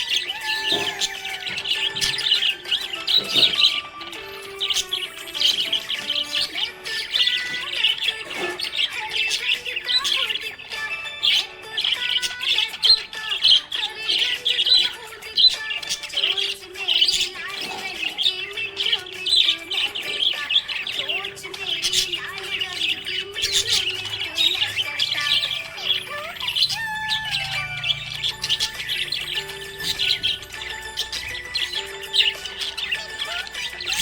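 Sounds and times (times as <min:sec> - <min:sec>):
background music: 0:00.0 - 0:34.0
budgerigars chirping: 0:00.0 - 0:34.0.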